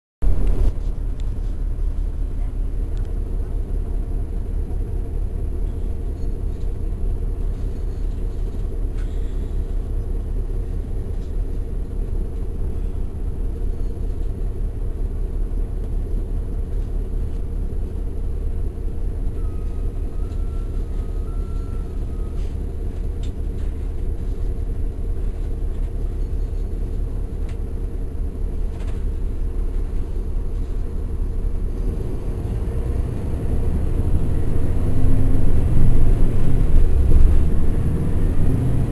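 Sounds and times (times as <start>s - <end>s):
bus diesel engine rumbling: 0.2s - 38.9s.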